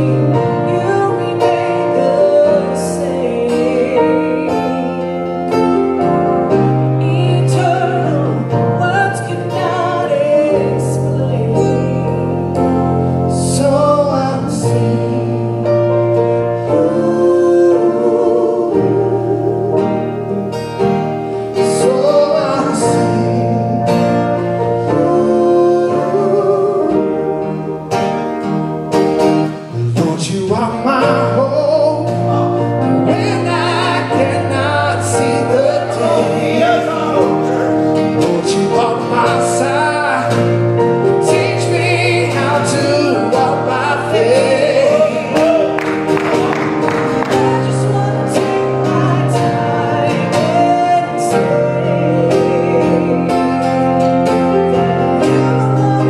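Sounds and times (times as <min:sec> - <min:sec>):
people singing: 0:00.0 - 0:12.7, 0:13.3 - 0:21.0, 0:21.6 - 0:27.6, 0:29.7 - 0:56.0
keyboard: 0:00.0 - 0:56.0.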